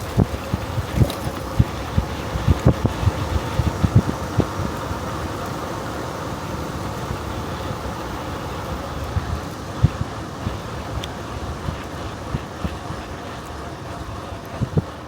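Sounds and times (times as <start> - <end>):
bicycle riding rumble: 0.0 - 15.0
wind buffeting microphone: 0.0 - 15.0.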